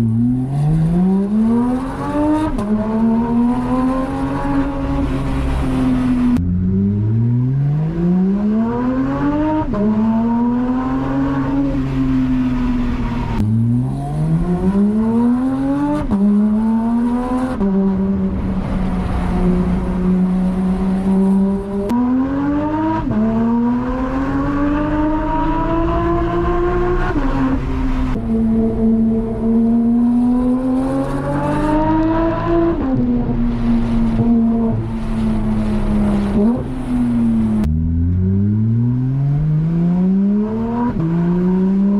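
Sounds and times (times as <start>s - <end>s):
car engine revving through gears: 0.0s - 41.9s.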